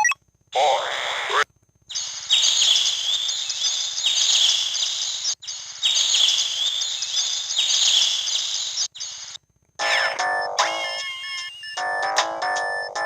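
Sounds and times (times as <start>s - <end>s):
bird-song ringtone chirps: 1.9s - 13.0s.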